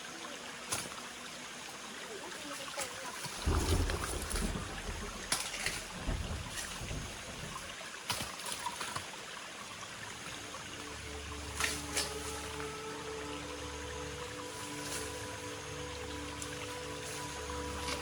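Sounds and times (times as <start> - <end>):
running water hiss: 0.0 - 18.0.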